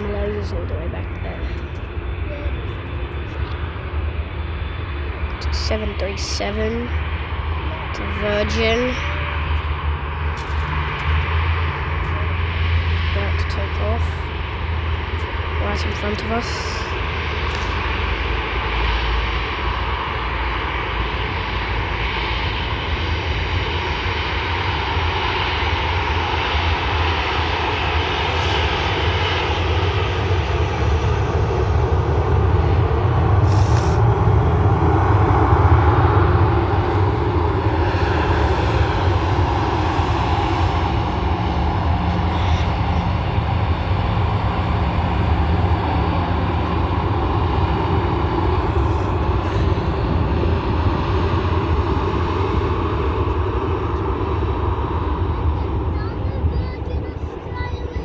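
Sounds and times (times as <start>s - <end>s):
jet engines at take-off thrust: 0.0s - 58.0s.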